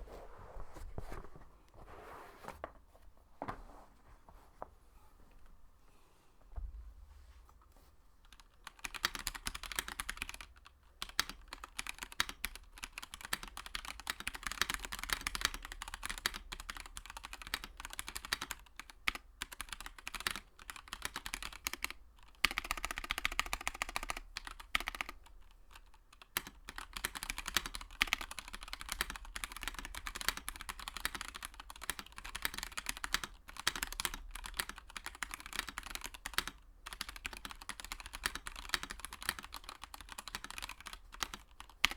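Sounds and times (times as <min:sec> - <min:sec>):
mechanical keyboard typing: 0:08.2 - 0:41.9.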